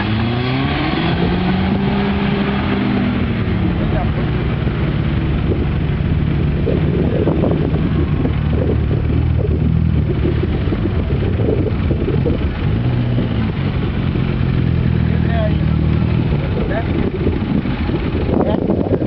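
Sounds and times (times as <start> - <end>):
suv engine running: 0.0 - 19.0.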